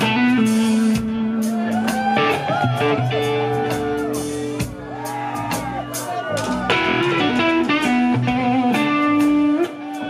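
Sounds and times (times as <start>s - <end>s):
band holding low notes: 0.0s - 10.0s
electric guitar sustained notes: 0.0s - 10.0s.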